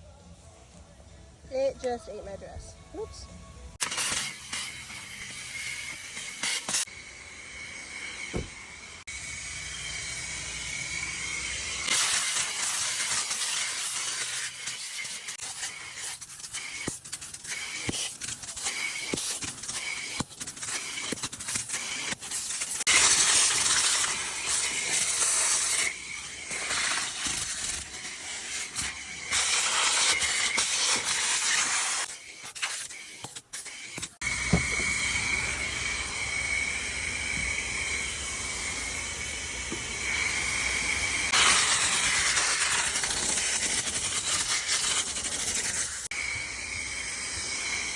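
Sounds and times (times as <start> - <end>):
vacuum cleaner: 3.8 - 47.9.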